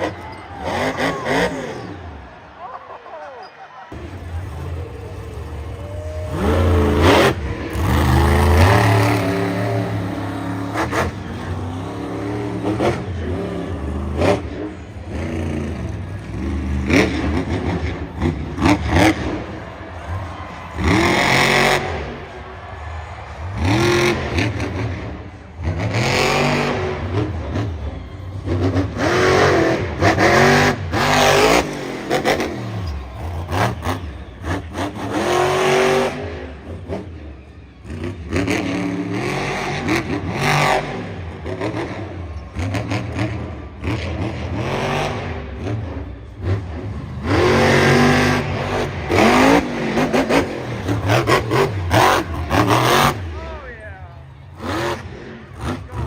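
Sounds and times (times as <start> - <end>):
monster truck engine revving: 0.0 - 2.7, 3.8 - 56.0.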